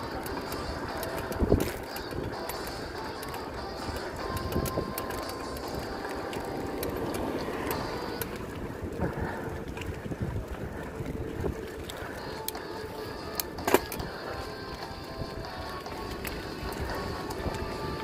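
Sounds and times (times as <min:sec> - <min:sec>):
bicycle freewheel clicking: 0:00.0 - 0:18.0
rumble of riding: 0:00.0 - 0:18.0.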